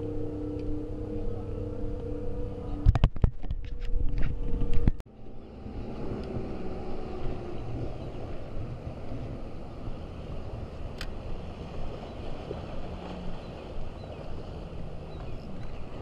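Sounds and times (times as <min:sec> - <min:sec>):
boat motor droning: 0:00.0 - 0:16.0
wind: 0:00.0 - 0:16.0.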